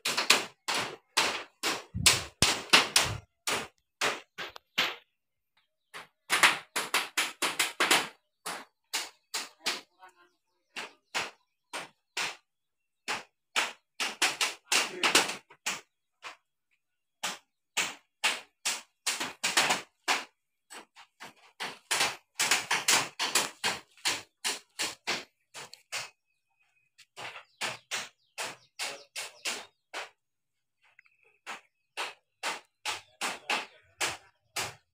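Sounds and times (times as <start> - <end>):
hammer knocking on bamboo: 0.0 - 5.0, 5.9 - 9.9, 10.7 - 16.5, 17.2 - 26.2, 27.2 - 30.2, 30.8 - 34.9.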